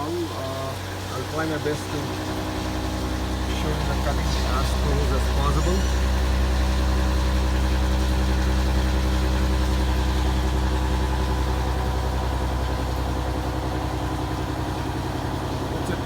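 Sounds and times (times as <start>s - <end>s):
gear cutting machine humming: 0.0s - 16.0s.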